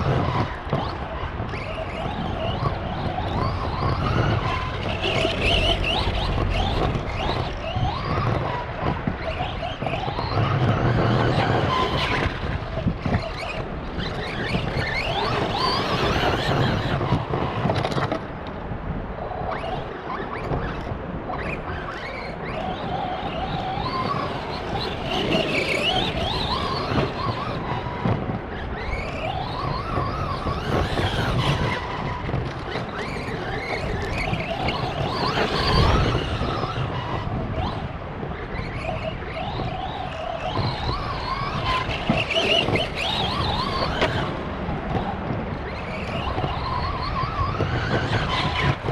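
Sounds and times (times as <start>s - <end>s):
tyre and drivetrain rush: 0.0s - 48.9s.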